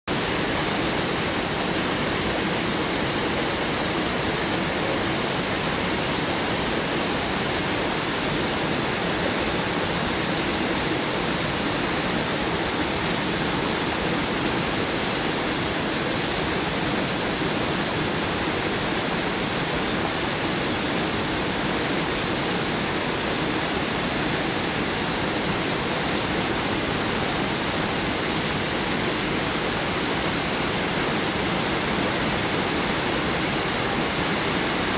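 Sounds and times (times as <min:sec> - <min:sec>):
heavy rain downpour: 0:00.1 - 0:34.9.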